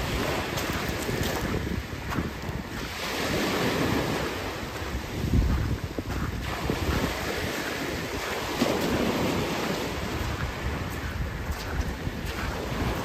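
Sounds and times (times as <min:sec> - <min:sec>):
waves washing on shingle: 0:00.0 - 0:13.0
wind buffeting microphone: 0:00.0 - 0:13.0.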